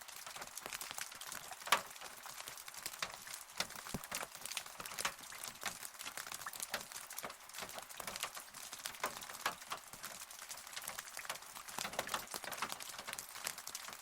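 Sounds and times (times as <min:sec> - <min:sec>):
raindrops pattering: 0:00.0 - 0:14.0
steady rain hiss: 0:00.0 - 0:14.0.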